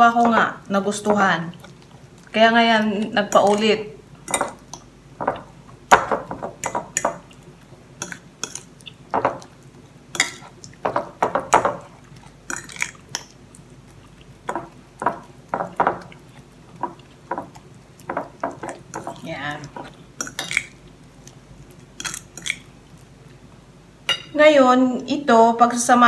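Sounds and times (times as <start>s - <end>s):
fork mashing bananas on plate: 0.0s - 22.7s.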